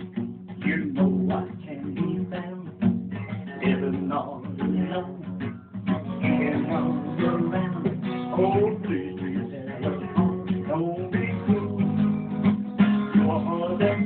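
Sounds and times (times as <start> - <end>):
guitar strumming: 0.0 - 14.0.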